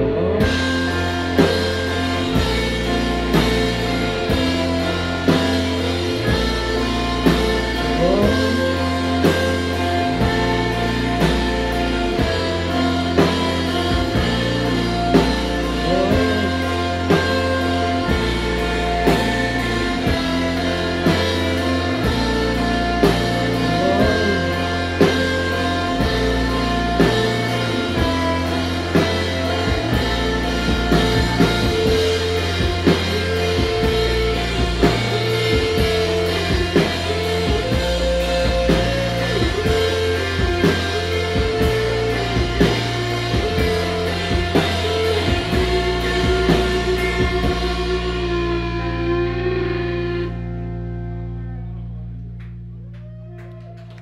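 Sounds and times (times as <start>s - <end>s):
bass guitar: 0.0s - 54.0s
electric guitars bending notes: 0.0s - 54.0s
drum kit beat: 0.4s - 50.2s.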